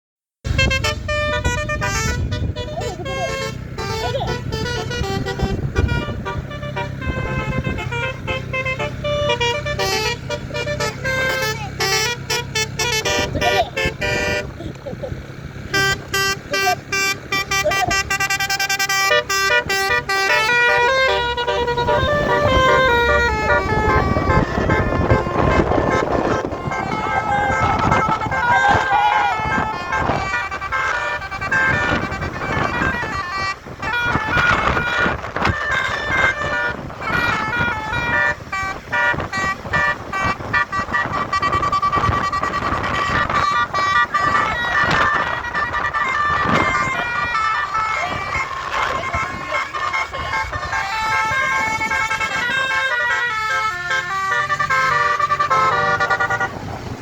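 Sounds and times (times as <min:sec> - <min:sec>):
bus musical horn playing a tune: 0:00.4 - 0:57.0
noisy rumble: 0:00.5 - 0:57.0.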